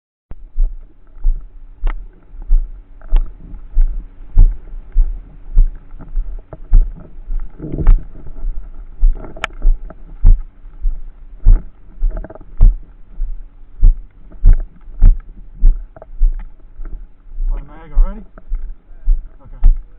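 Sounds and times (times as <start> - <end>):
muffled low footstep thumps: 0.3 - 19.9.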